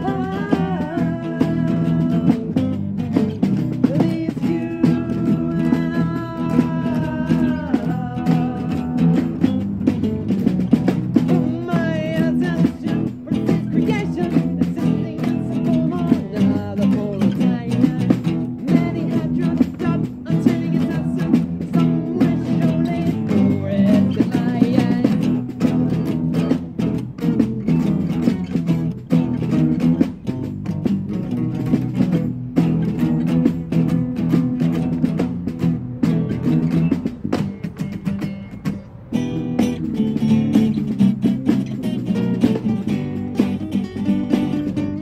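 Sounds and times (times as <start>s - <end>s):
strummed guitar chords: 0.0s - 45.0s.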